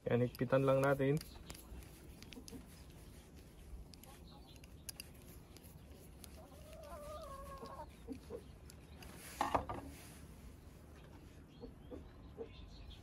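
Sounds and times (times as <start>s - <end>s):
bird calls: 0.8s - 9.6s, 10.5s - 13.0s.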